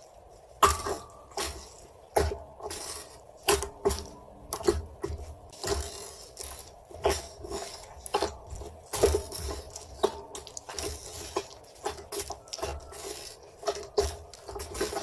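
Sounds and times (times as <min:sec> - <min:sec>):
slime squished by hand: 0:00.6 - 0:15.0.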